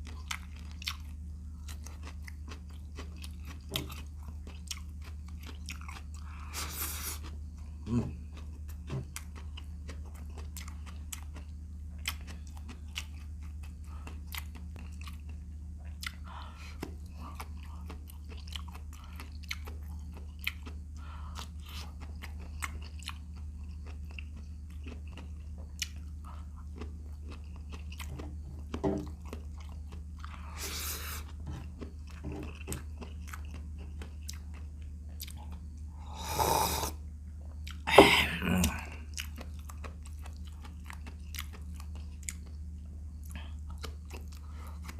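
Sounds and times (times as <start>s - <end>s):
chewing shrimp: 0.0s - 44.9s
low steady hum: 0.0s - 44.9s.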